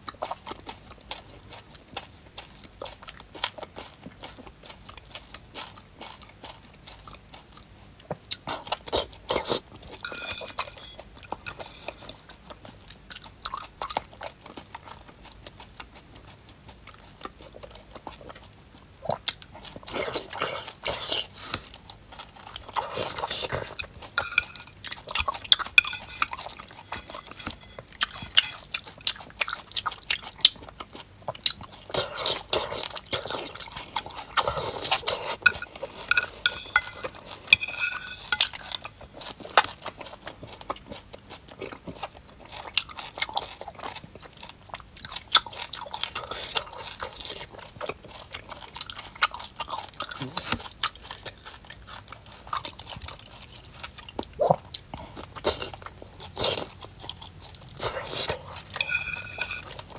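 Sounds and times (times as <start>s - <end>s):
person biting and chewing food: 0.0s - 59.9s.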